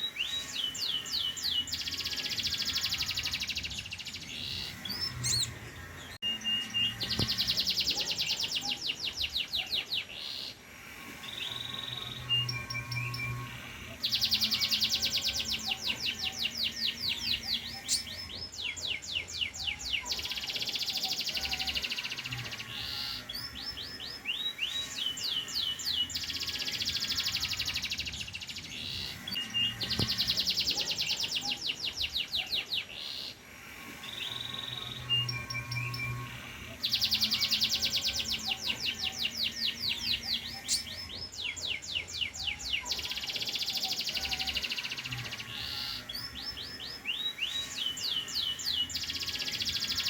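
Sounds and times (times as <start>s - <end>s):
canary singing rapid trills: 0.0s - 50.0s.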